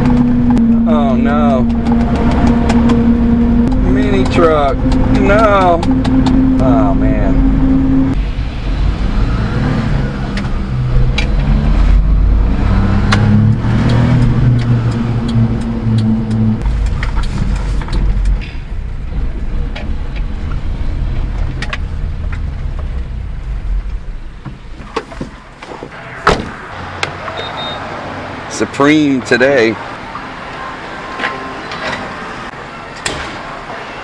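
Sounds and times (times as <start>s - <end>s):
engine revving inside cab: 0.0s - 27.8s.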